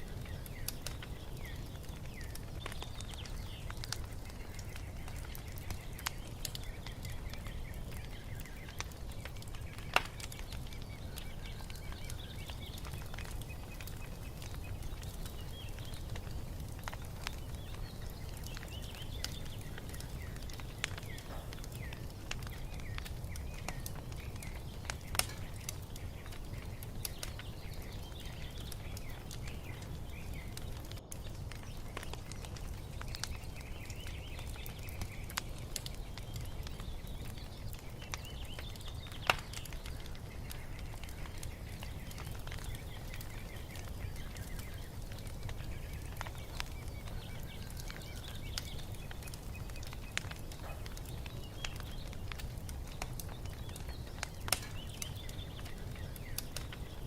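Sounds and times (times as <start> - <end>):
small birds chirping: 0.0 - 57.0
wood fire crackling and popping: 0.0 - 57.0.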